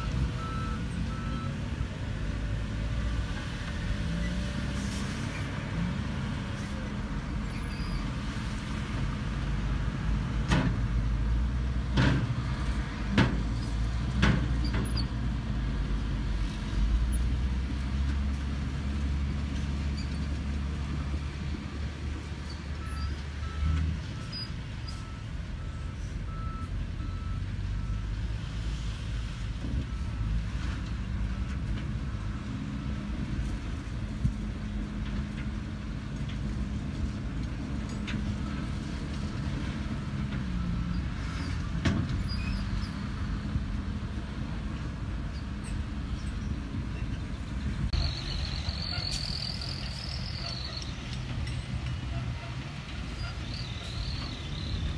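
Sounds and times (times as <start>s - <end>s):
diesel truck engines rumbling: 0.0s - 54.9s.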